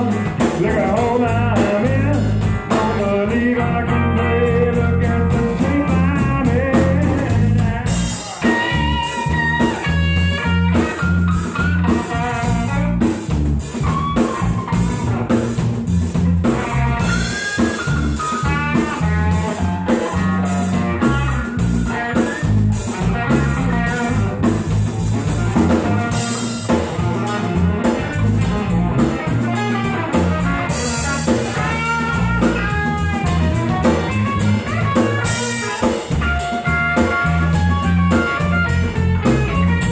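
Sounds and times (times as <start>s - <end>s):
drum kit with cymbal strikes: 0.0s - 39.9s
electric bass: 0.0s - 39.9s
electric guitar lead lines: 0.0s - 39.9s.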